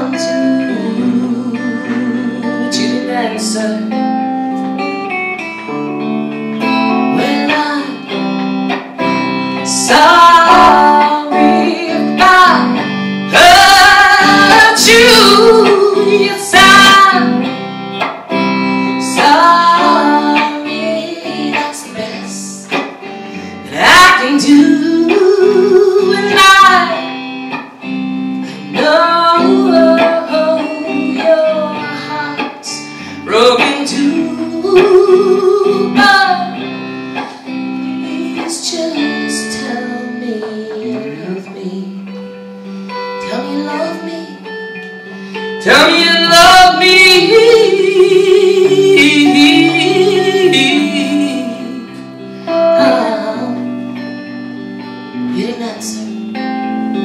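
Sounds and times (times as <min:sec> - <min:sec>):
woman singing: 0:00.0 - 0:05.8, 0:06.6 - 0:27.6, 0:28.4 - 0:57.0
electric guitar playing: 0:00.0 - 0:57.0.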